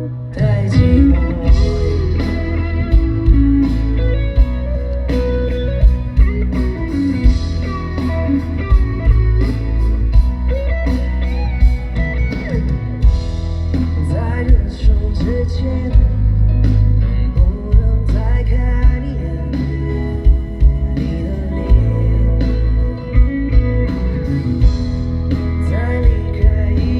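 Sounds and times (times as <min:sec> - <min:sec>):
person singing: 0:00.0 - 0:09.6, 0:14.0 - 0:26.9
bass and electric guitar: 0:00.0 - 0:26.9
drums: 0:00.0 - 0:26.9.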